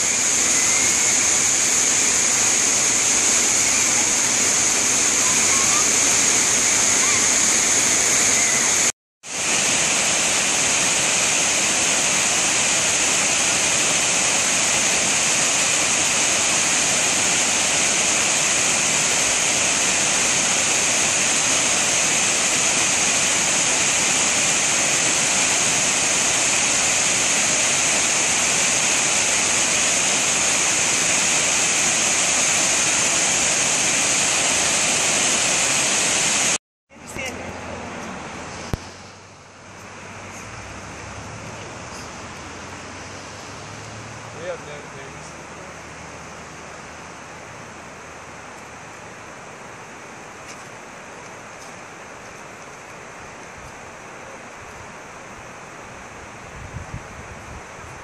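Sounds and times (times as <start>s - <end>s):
waterfall over rocks: 0.0s - 56.6s.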